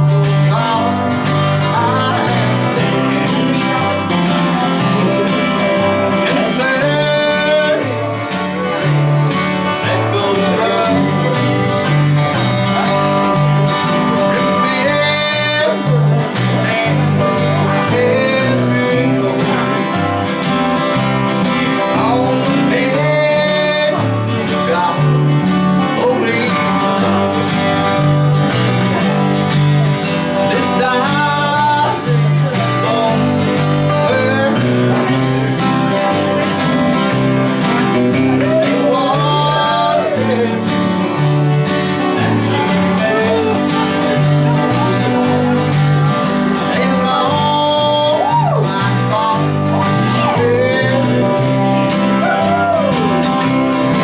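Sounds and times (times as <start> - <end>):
man singing: 0.0 - 54.0
strummed acoustic guitar: 0.0 - 54.0.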